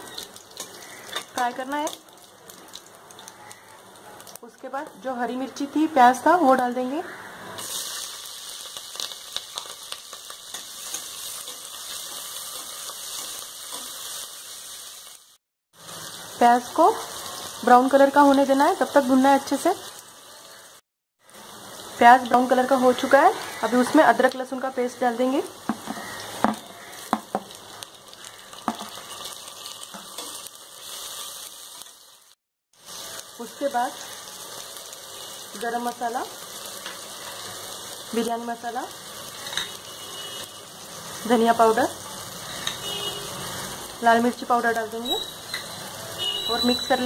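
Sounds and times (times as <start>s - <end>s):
onions sizzling in hot oil: 0.0s - 47.0s.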